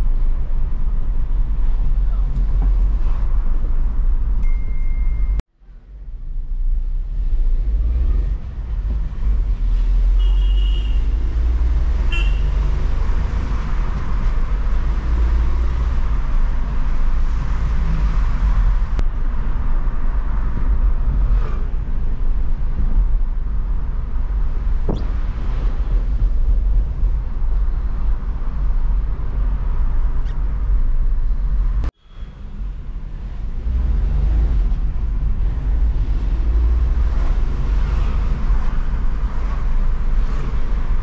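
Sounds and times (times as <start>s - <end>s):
road rumble: 0.0s - 41.0s.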